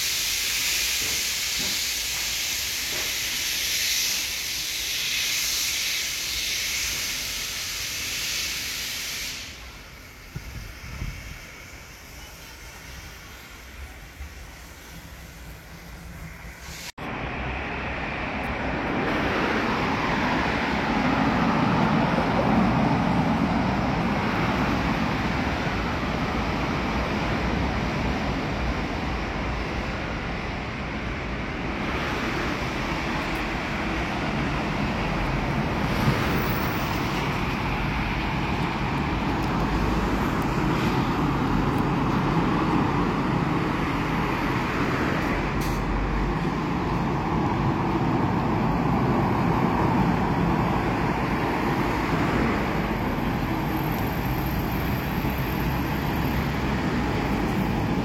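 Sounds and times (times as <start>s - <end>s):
electric train wheels rumbling: 0.0s - 58.0s.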